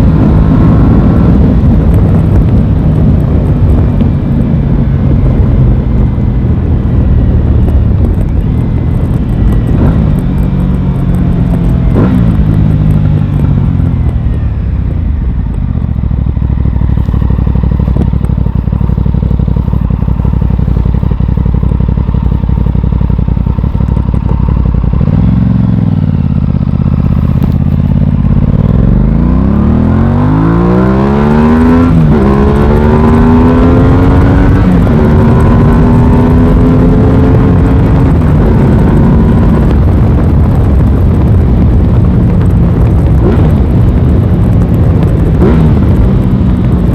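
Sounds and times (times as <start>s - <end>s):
gear change: 0.0s - 46.9s
motorcycle engine revving: 0.0s - 46.9s.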